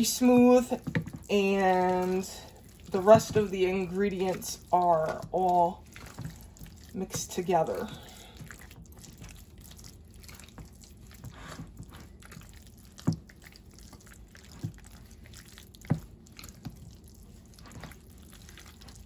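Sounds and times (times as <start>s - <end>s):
wet squelching of stirred mix: 0.0s - 19.0s.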